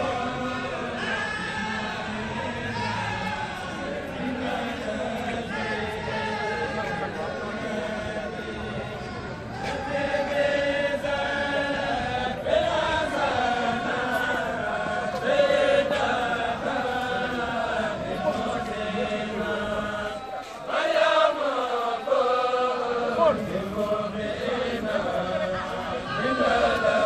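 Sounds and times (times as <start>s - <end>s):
group chanting in unison: 0.0s - 27.0s.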